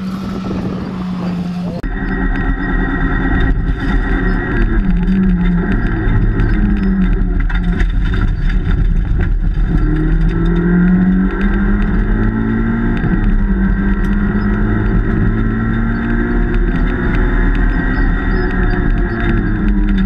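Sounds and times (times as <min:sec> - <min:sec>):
rally car engine running hard: 0:00.0 - 0:20.0.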